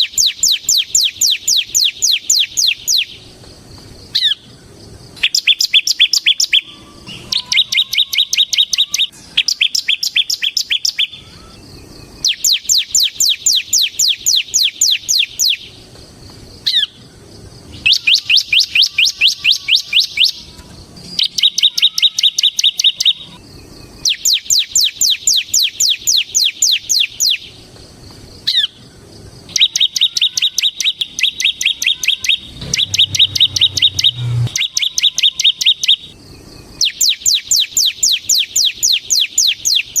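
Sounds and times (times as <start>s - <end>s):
bird buzzy trills: 0.0s - 40.0s
bird singing drilling song: 0.0s - 40.0s.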